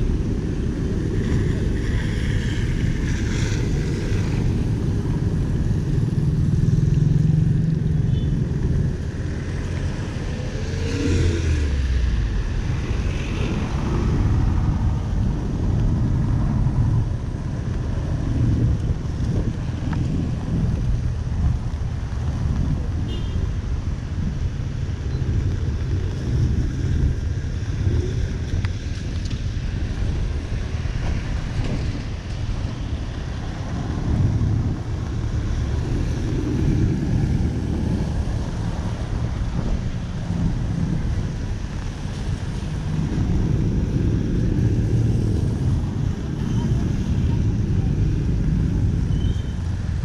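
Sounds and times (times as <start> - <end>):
low rumble of traffic: 0.0 - 50.0
wind buffeting microphone: 0.0 - 50.0.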